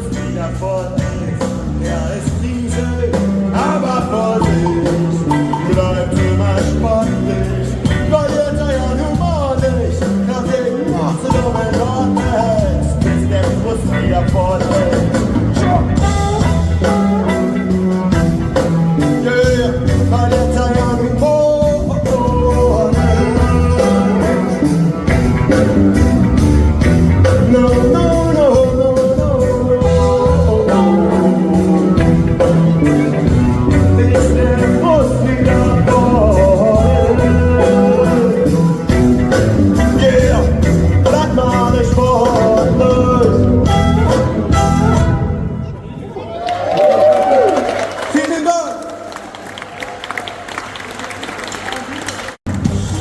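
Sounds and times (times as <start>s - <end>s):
rock band playing: 0.0s - 47.7s, 51.8s - 53.0s.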